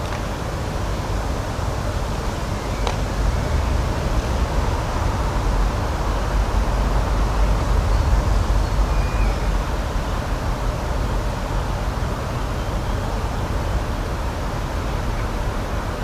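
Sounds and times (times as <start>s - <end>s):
rushing noise with deep rumble: 0.0s - 16.0s.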